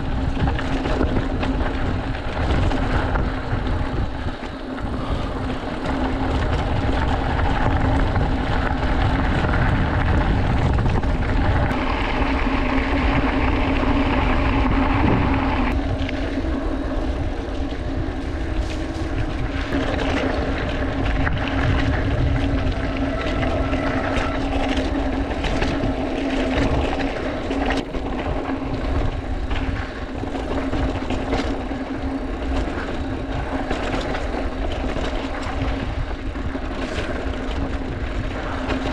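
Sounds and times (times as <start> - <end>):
bike rattles and clicks: 0.0 - 38.9
bike tyre noise: 0.0 - 38.9
wind rumble: 0.0 - 38.9.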